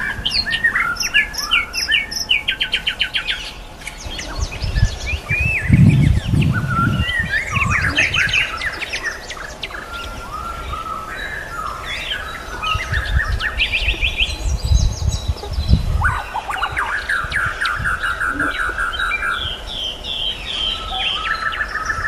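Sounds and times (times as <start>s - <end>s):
low rumbling noise: 0.0s - 20.9s
songbirds singing: 0.0s - 22.0s.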